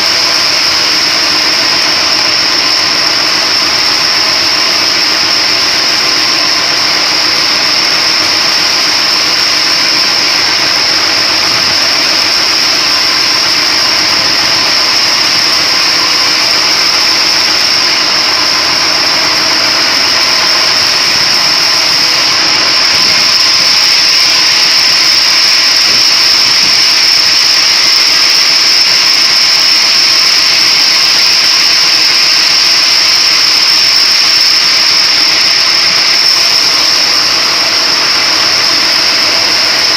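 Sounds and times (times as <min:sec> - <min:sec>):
splitting machine whining: 0:00.0 - 0:39.9.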